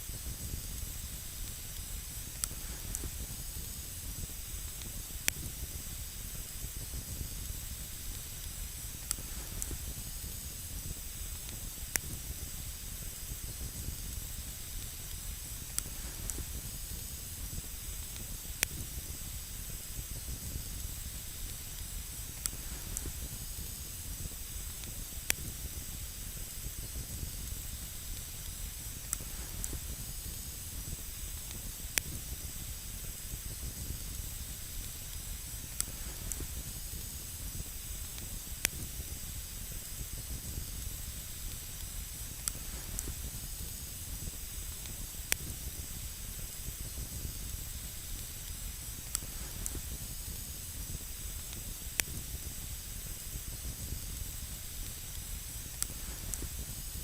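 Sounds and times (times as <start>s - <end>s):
campfire hissing: 0.0s - 57.0s
fire crackling and popping: 0.0s - 57.0s.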